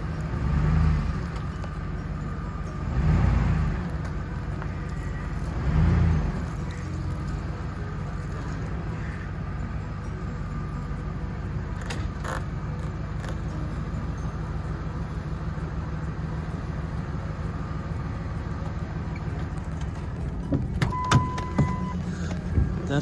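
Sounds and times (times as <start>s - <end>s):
vehicle engine rumbling: 0.0s - 23.0s
light clicks and rattles: 3.8s - 23.0s.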